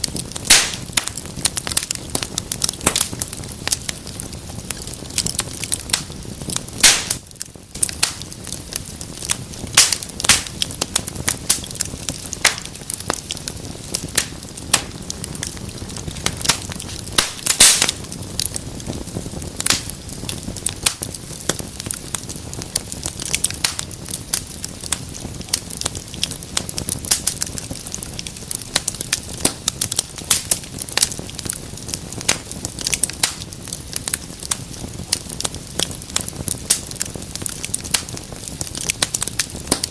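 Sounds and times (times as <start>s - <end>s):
fireplace fire crackling: 0.0s - 39.9s
hiss of flames: 0.0s - 39.9s
sharp pops of fire: 0.0s - 39.9s.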